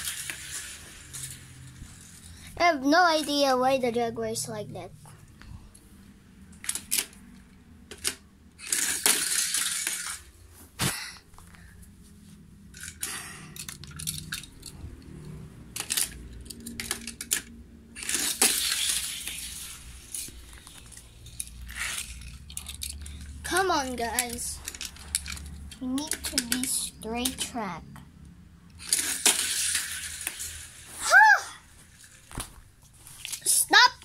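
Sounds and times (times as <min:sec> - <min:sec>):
toy cars and track clicking: 0:00.0 - 0:04.1, 0:06.5 - 0:10.3, 0:12.7 - 0:28.0, 0:28.7 - 0:32.3, 0:33.2 - 0:34.0.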